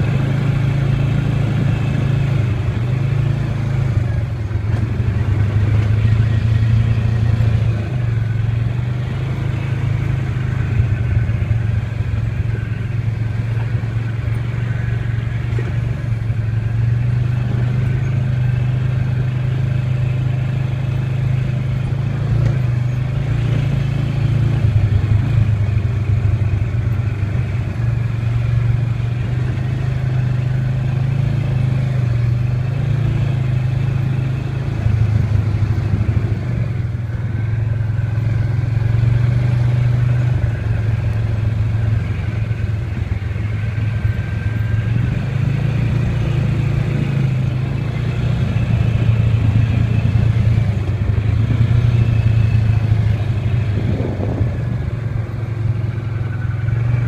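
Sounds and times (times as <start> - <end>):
off-road vehicle engine: 0.0 - 57.0
vehicle rattling over bumps: 0.0 - 57.0.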